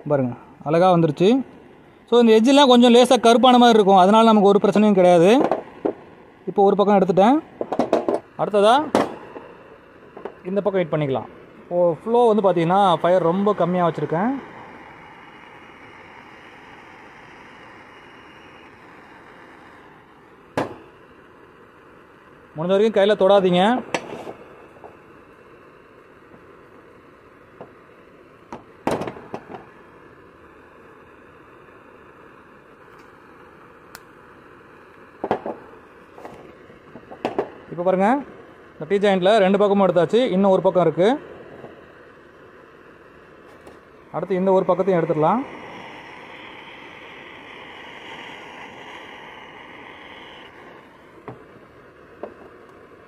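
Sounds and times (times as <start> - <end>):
faint steady hiss: 0.0 - 53.0.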